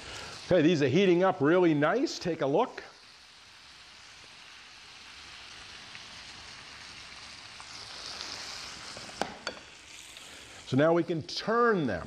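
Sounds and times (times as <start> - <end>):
chicken sizzling in butter: 0.0 - 12.0.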